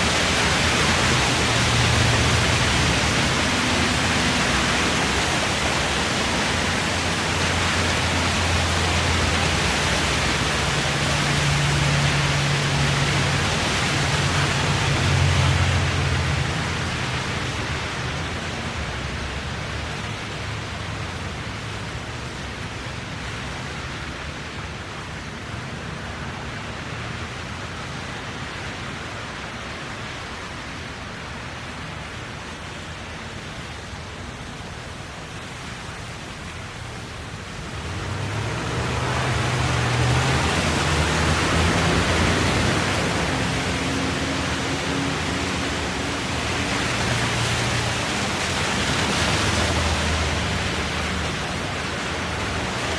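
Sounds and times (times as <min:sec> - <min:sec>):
vehicle passing with tyre spray: 0:00.0 - 0:25.2, 0:35.6 - 0:52.9
low engine hum: 0:00.0 - 0:29.4, 0:31.3 - 0:52.9
tyres hissing on wet road: 0:00.0 - 0:52.9.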